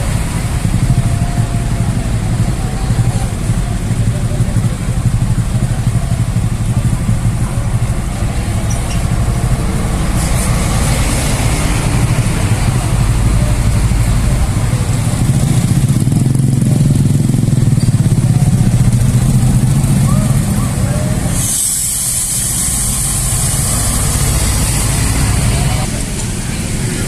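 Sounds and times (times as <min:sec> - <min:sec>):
bus diesel engines rumbling: 0:00.0 - 0:27.0.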